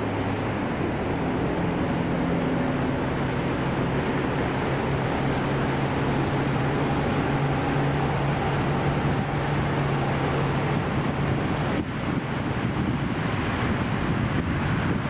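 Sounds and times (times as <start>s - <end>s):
low engine hum: 0.0s - 15.0s
road traffic rushing: 0.0s - 15.0s.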